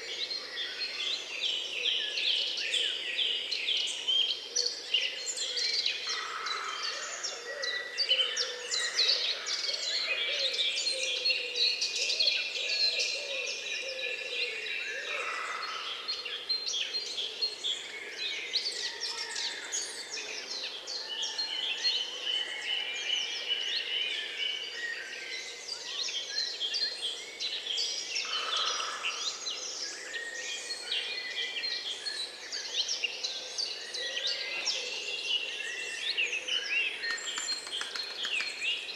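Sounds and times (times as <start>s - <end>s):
chorus of small birds singing: 0.0s - 38.9s.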